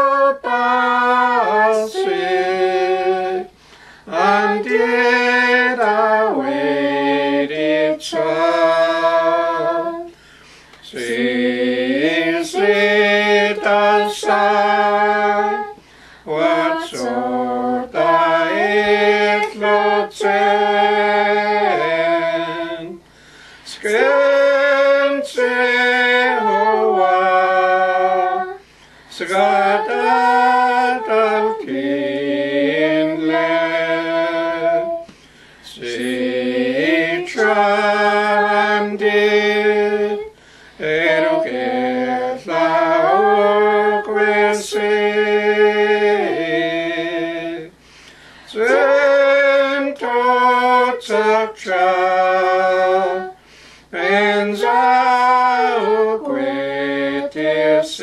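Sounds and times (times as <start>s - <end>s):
unaccompanied hymn singing: 0.0s - 58.0s.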